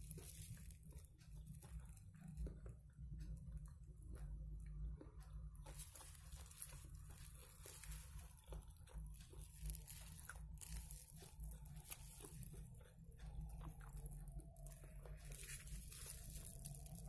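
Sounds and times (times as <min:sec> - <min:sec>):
crackling and crunching of eating: 0:00.0 - 0:17.0
steady low hum: 0:00.0 - 0:17.0.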